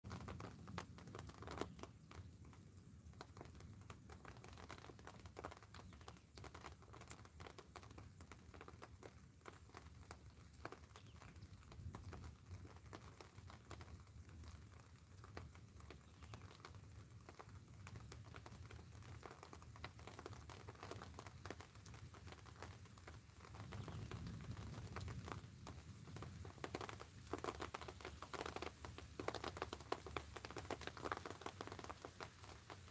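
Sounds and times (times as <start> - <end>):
raindrops pattering on fabric umbrella: 0.0 - 32.9.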